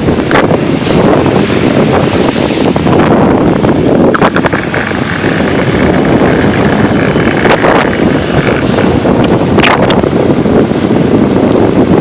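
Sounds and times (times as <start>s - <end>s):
golf cart running: 0.0s - 12.0s
wind noise on microphone: 0.0s - 12.0s.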